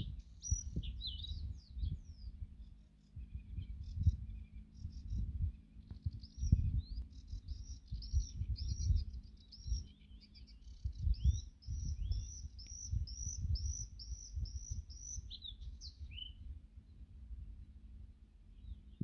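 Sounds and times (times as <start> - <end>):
low irregular rumble: 0.0 - 19.0
songbird singing: 0.0 - 19.0.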